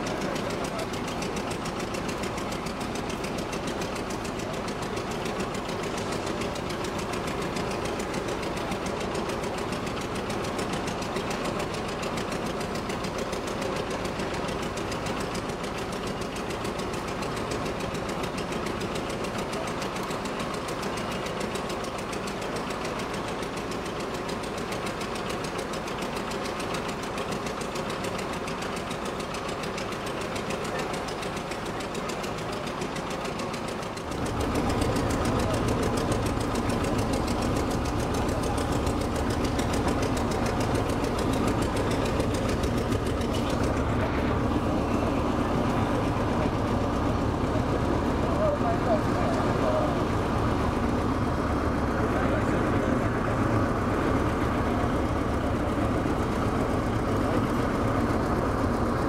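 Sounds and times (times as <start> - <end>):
forklift engine idling: 0.0 - 59.0.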